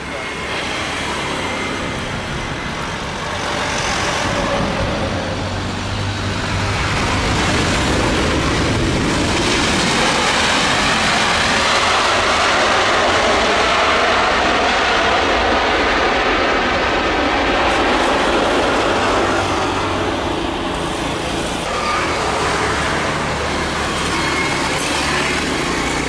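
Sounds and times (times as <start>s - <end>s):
jet engine roar: 0.0s - 26.0s.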